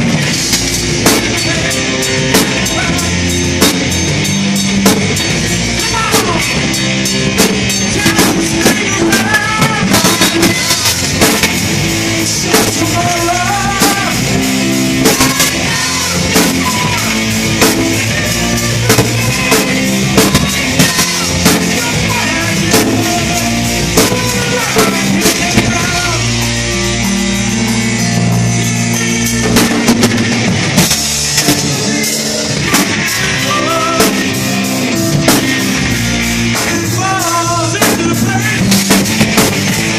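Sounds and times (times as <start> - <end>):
bass guitar: 0.0 - 39.9
drum kit beat: 0.0 - 39.9
keyboards: 0.0 - 39.9.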